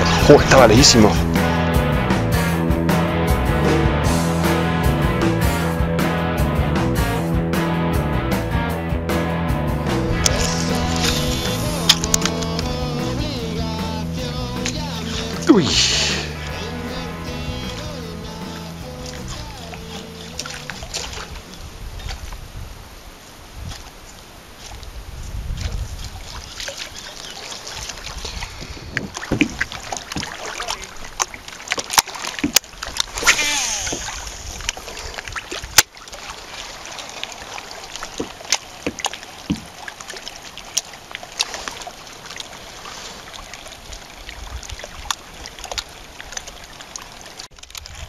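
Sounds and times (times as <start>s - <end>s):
water lapping around kayak: 0.0s - 1.8s, 10.0s - 48.0s.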